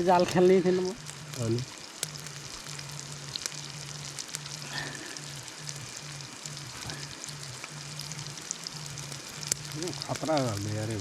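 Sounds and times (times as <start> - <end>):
fish sizzling in hot oil: 0.0 - 11.0
low hum: 0.0 - 11.0.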